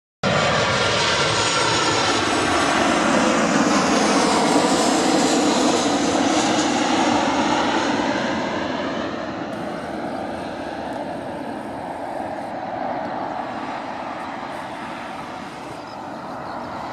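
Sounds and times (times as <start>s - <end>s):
faint jet engine whine: 0.2s - 16.9s
jet engines rushing: 0.2s - 16.9s.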